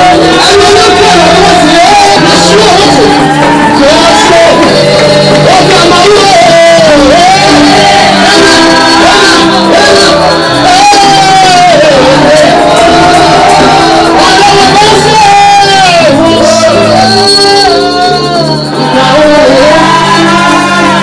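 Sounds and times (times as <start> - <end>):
drum kit: 0.0 - 21.0
electronic keyboard chords: 0.0 - 21.0
voices singing: 0.0 - 21.0.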